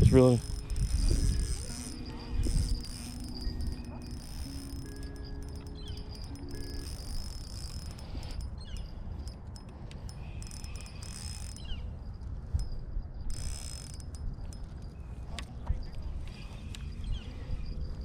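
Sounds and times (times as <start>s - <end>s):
insects buzzing high-pitched: 0.0s - 15.0s
wind rumble on microphone: 0.0s - 18.0s.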